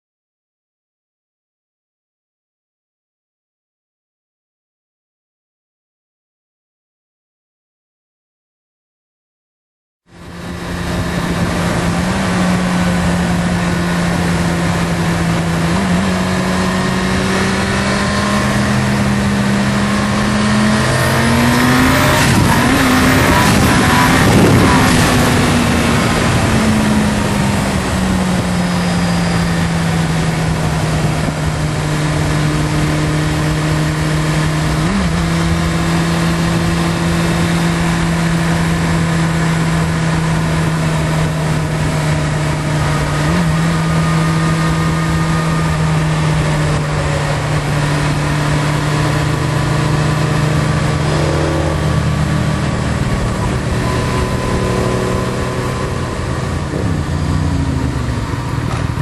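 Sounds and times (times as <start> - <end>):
vehicle engine running: 10.1 - 59.0.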